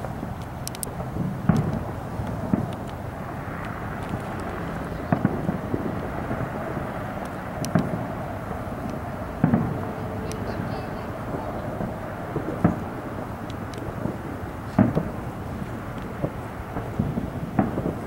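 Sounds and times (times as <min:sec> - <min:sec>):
low background noise: 0:00.0 - 0:18.0
distant firework booms: 0:01.0 - 0:18.0.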